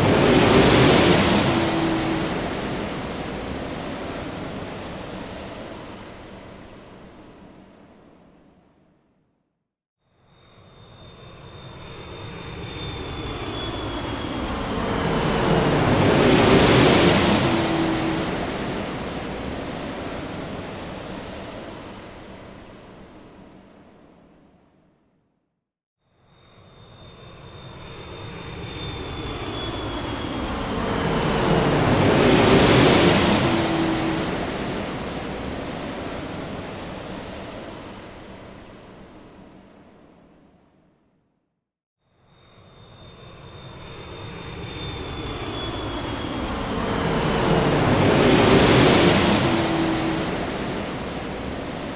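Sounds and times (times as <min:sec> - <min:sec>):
airplane flying over: 0:00.0 - 0:08.2, 0:10.4 - 0:24.1, 0:26.4 - 0:40.2, 0:42.4 - 0:51.9.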